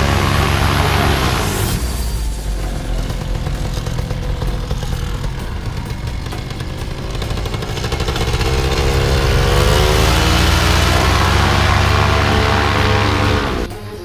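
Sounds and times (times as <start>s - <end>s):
paramotor engine idling: 0.0s - 14.0s.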